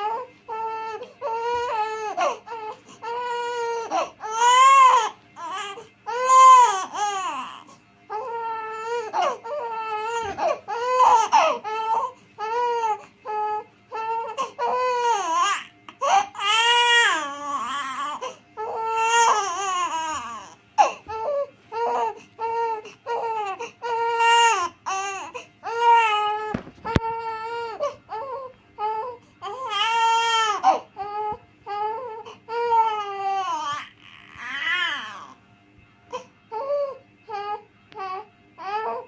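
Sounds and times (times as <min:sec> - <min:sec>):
baby crying: 0:00.0 - 0:35.4, 0:36.1 - 0:39.0.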